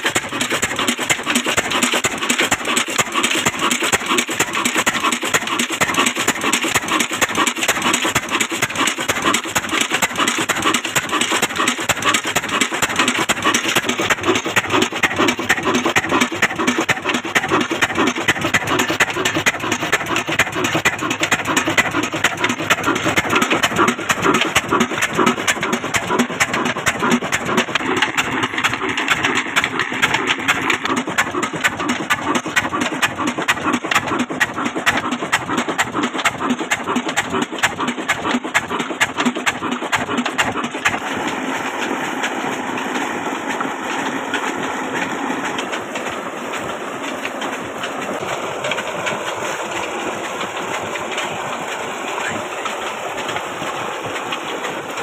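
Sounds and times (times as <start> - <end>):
diesel engine knocking: 0.0 - 55.0
water pouring from pipe: 0.0 - 55.0.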